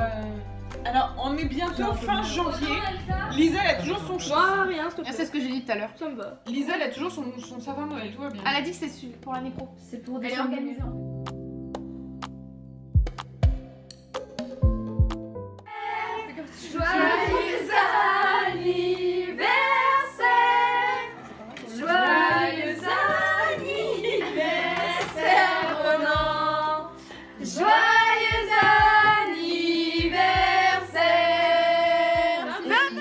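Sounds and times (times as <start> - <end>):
instrumental backing: 6.4 - 33.0.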